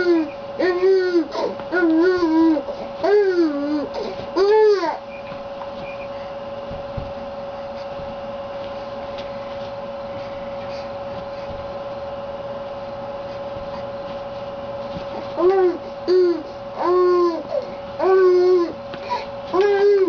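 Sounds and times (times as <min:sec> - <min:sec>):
mid-pitched whine: 0:00.0 - 0:20.0
steady mechanical hum: 0:00.0 - 0:20.0.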